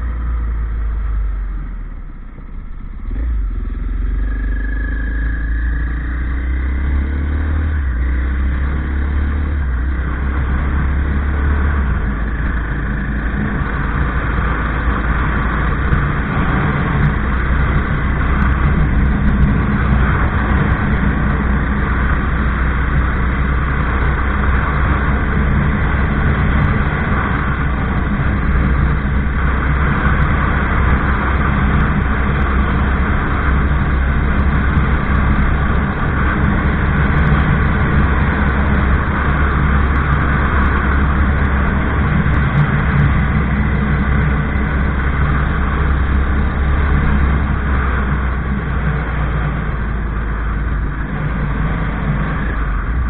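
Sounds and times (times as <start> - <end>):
motorcycle engine accelerating: 0.0 - 53.0
wind rushing over microphone: 3.1 - 53.0.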